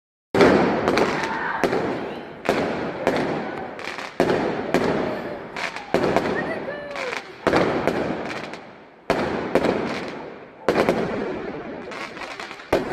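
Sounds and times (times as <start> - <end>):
fireworks bangs with echo: 0.4 - 12.9.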